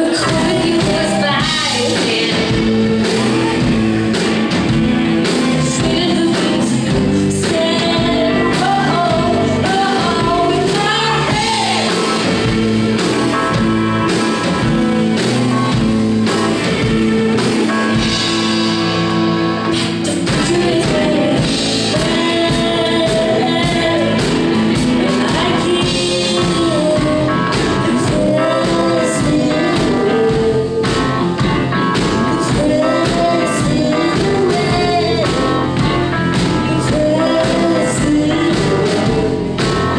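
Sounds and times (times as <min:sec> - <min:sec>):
live band playing with vocals: 0:00.0 - 0:39.9.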